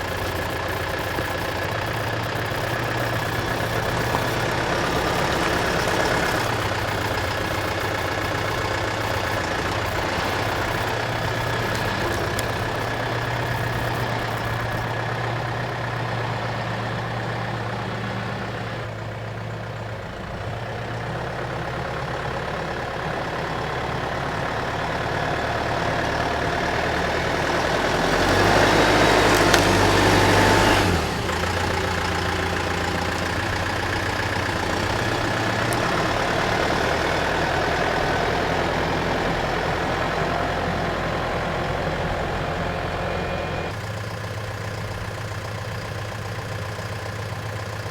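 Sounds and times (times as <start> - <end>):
skid steer engine running: 0.0 - 47.9.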